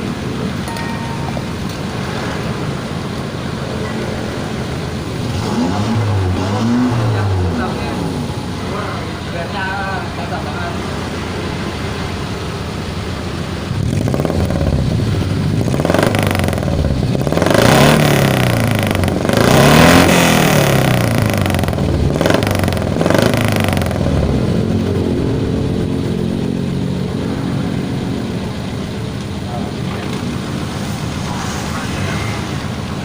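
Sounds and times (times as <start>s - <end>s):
van engine revving and idling: 0.0s - 0.6s, 1.4s - 33.0s.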